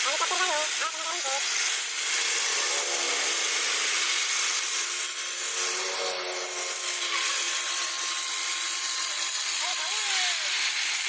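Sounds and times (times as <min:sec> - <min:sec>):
angle grinder motor whine: 0:00.0 - 0:11.0
blade cutting grass hiss: 0:00.0 - 0:11.0.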